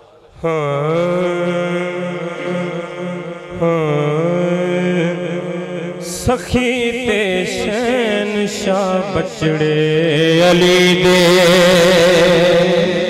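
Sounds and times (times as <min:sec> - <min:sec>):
man singing into microphone: 0:00.1 - 0:13.0.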